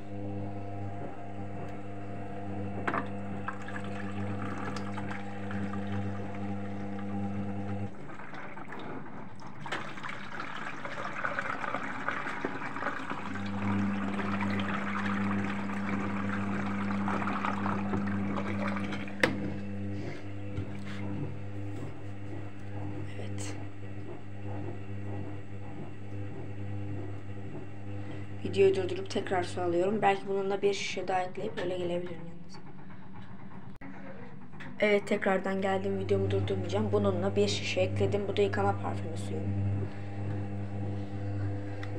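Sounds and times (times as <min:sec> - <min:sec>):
water rushing into washing machine: 0:00.0 - 0:33.8, 0:34.6 - 0:41.9
washing machine motor humming: 0:00.0 - 0:41.9.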